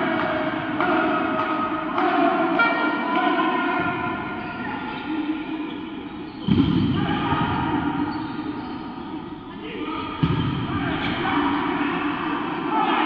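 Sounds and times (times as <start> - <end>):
sports hall background sound: 0.0 - 13.0.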